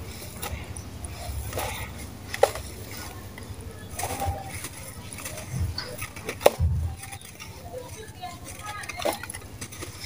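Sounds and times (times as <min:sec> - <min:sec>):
dry sand cement crunching: 0:00.0 - 0:10.0.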